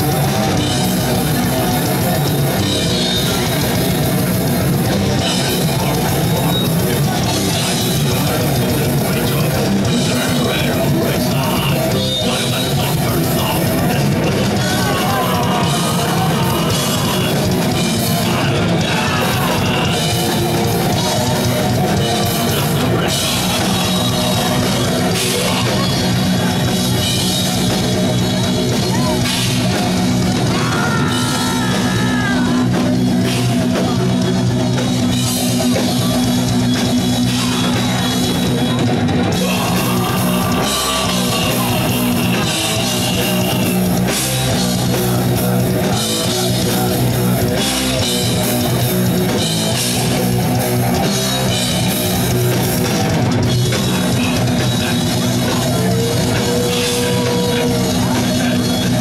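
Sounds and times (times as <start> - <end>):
distorted electric guitar: 0.0 - 59.0
pounding drum kit: 0.0 - 59.0.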